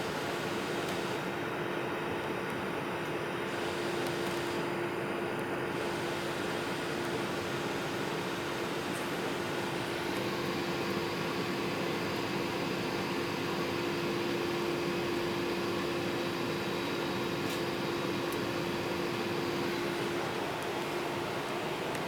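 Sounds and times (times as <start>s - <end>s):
airplane cabin airflow and engine: 0.0s - 22.0s.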